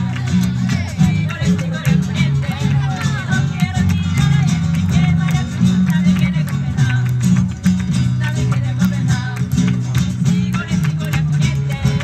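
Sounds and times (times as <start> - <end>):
flamenco guitar strumming: 0.0 - 12.0.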